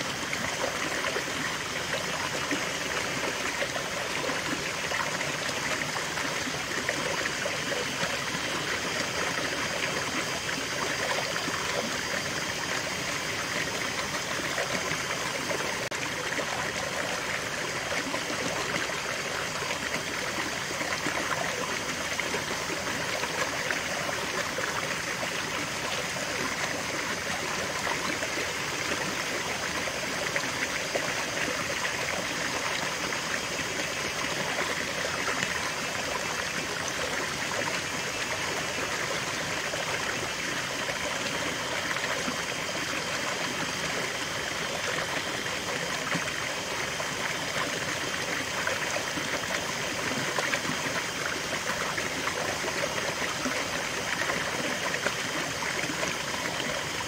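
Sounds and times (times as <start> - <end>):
stream water over rocks: 0.0 - 57.0.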